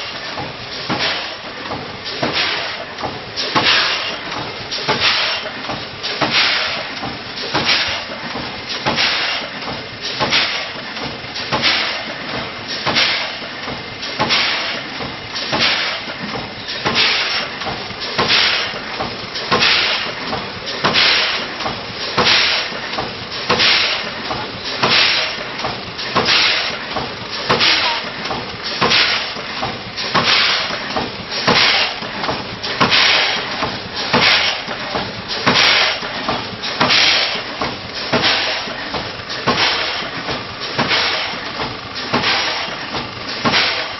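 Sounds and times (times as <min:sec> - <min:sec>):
packing machine hissing clatter: 0:00.0 - 0:43.9.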